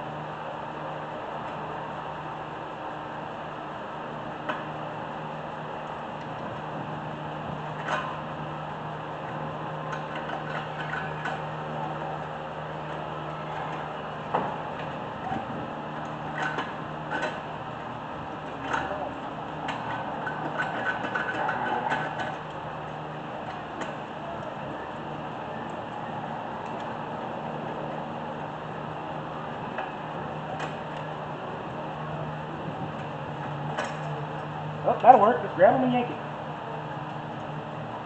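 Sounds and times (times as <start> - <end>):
electric fan humming: 0.0 - 38.0.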